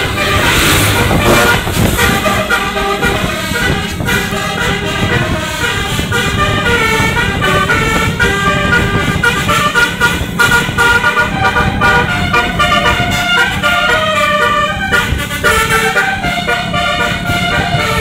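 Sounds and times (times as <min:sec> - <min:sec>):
bus engine running: 0:00.0 - 0:18.0
bus musical horn tune: 0:00.0 - 0:18.0.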